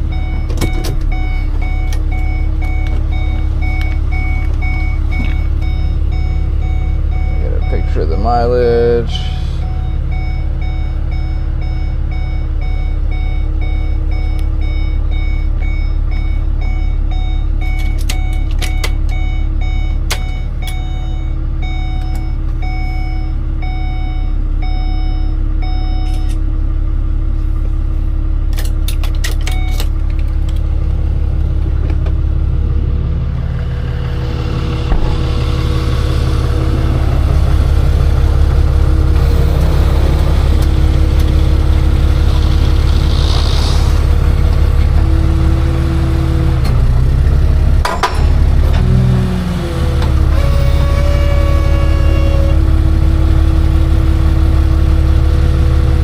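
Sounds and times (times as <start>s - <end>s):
heavy truck engine running: 0.0s - 56.0s.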